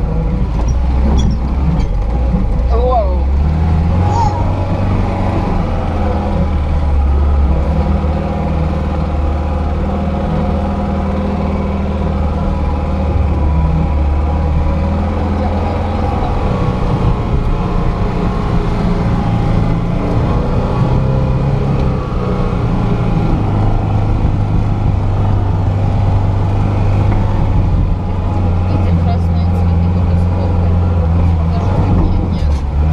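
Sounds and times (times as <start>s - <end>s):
car engine running at low revs: 0.0s - 32.9s.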